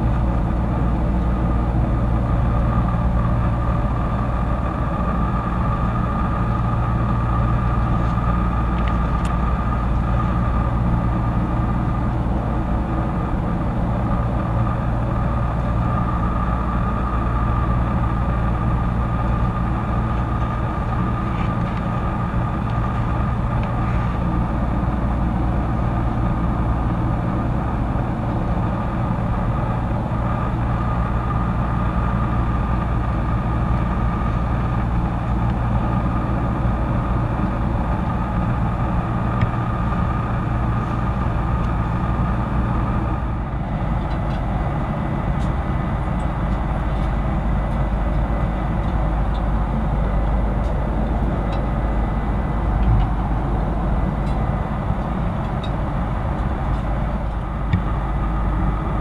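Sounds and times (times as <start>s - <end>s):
airplane cabin engine drone: 0.0s - 59.0s
steady hum: 0.0s - 59.0s.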